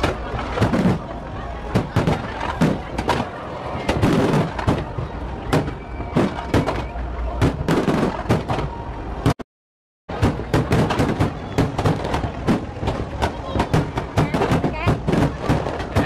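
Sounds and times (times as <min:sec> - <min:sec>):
fireworks crackle: 0:00.0 - 0:08.7, 0:10.1 - 0:16.0
fireworks bursting: 0:00.0 - 0:09.4, 0:10.1 - 0:16.0.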